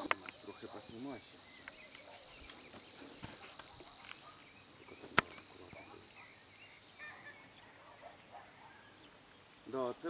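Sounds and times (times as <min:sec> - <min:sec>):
distant bird chirps: 0:00.0 - 0:10.0.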